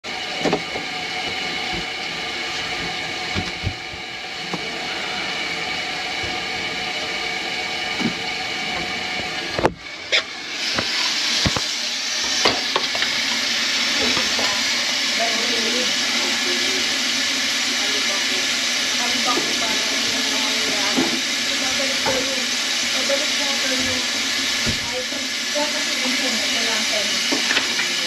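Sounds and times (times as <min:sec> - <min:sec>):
faucet water running into sink: 0:00.0 - 0:28.0.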